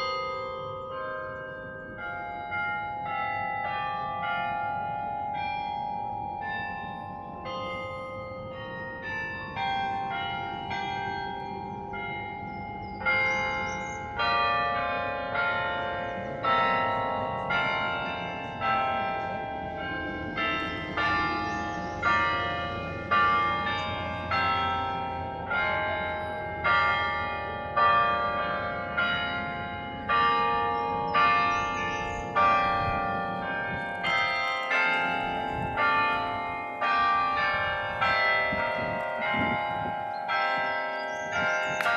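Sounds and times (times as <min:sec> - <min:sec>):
tower bells ringing a melody: 0:00.0 - 0:41.9.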